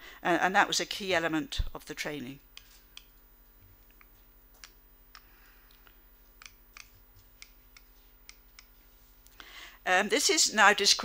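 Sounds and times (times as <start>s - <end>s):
faint mains hum: 0.0s - 11.0s.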